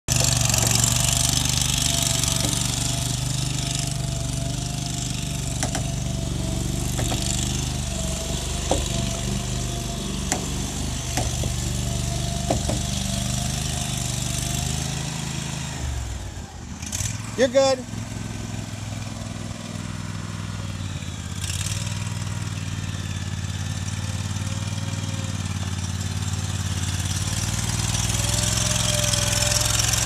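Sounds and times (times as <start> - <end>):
small engine droning: 0.0 - 30.0.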